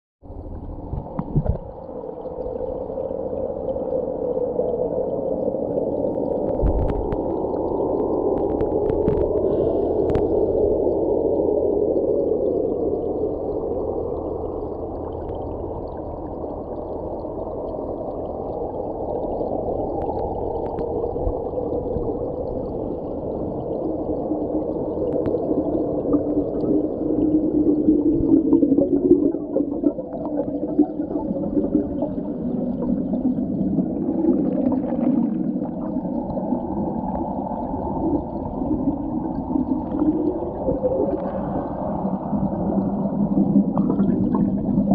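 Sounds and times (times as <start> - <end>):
faint underwater clicks: 0.3 - 33.6, 34.5 - 42.9
underwater gas bubbling: 0.3 - 44.9.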